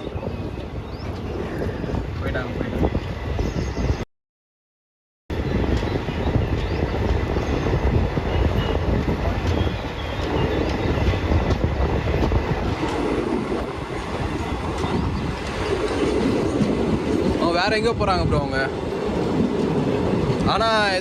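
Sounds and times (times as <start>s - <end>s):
train running on track: 0.0s - 4.0s, 5.3s - 21.0s.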